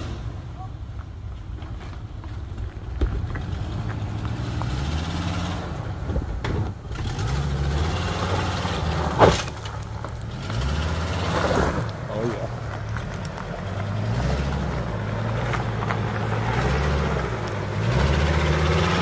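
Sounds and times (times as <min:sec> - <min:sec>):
truck engine revving: 0:00.0 - 0:00.6, 0:03.2 - 0:19.0.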